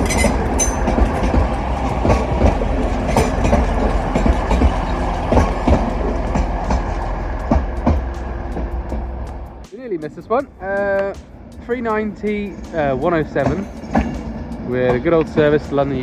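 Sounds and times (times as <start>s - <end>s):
train rumbling past: 0.0s - 16.0s
train wheels clattering over joints: 0.0s - 16.0s.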